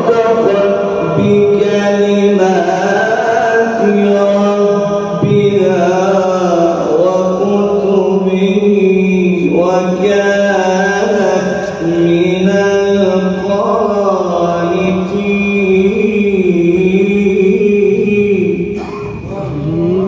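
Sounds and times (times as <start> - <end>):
man chanting into a microphone: 0.0 - 20.0.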